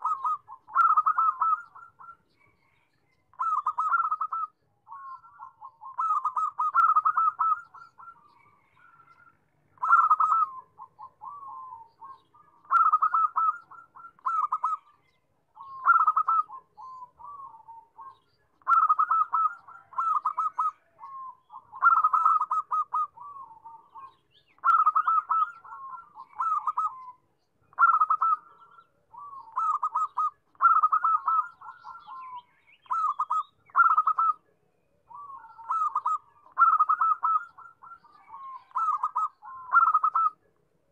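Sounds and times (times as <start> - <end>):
dove cooing: 0.0 - 34.5, 35.1 - 40.9.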